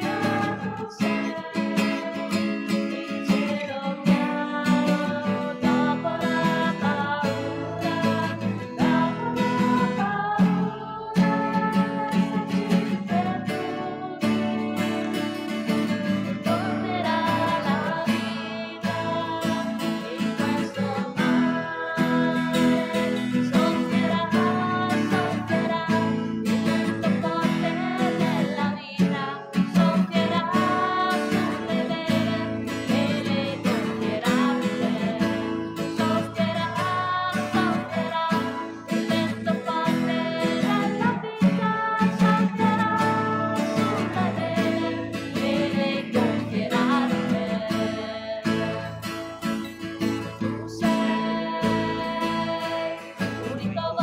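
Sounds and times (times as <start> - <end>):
person singing a hymn: 0.0 - 49.1, 50.4 - 54.0
acoustic guitar strumming: 0.0 - 54.0.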